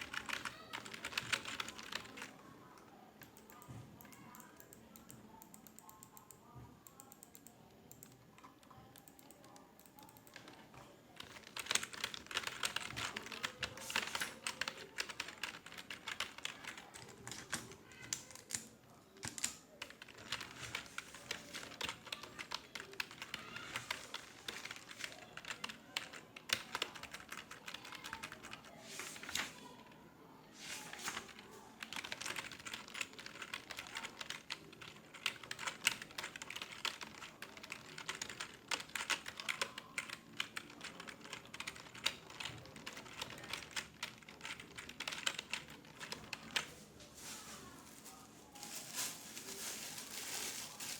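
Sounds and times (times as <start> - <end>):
typing on a computer keyboard: 0.0 - 29.6, 30.9 - 46.7.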